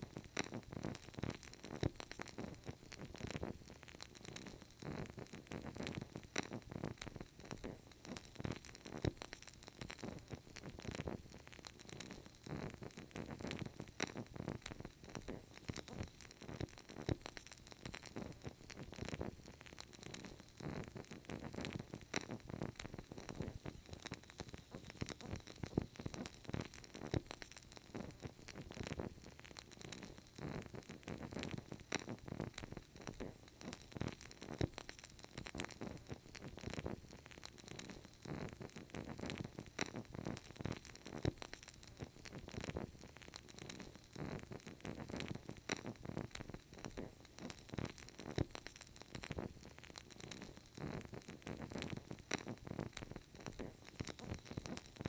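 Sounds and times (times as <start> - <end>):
candle flame crackling: 0.0 - 55.0.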